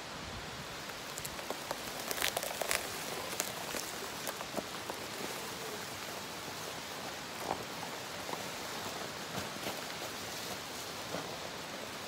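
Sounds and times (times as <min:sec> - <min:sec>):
leaves and twigs crackling under tyres: 0:00.0 - 0:12.0.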